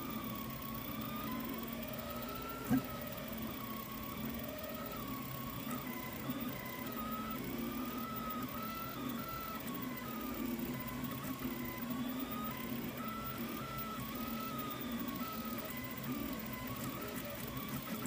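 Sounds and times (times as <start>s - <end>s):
steady hum: 0.0s - 18.0s
stepper motors whining: 0.0s - 18.0s.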